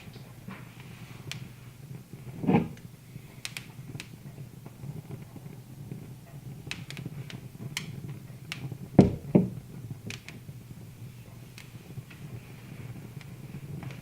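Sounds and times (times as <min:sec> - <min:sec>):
loud fire pops: 0:00.0 - 0:14.0
low fire rumble: 0:00.0 - 0:14.0
wood fire crackling and snapping: 0:00.0 - 0:14.0.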